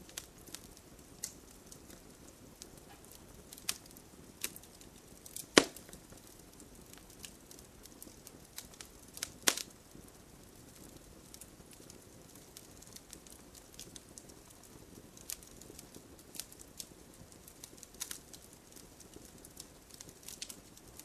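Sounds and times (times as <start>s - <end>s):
fire crackles and pops: 0.0s - 21.0s
wood fire hissing: 0.0s - 21.0s.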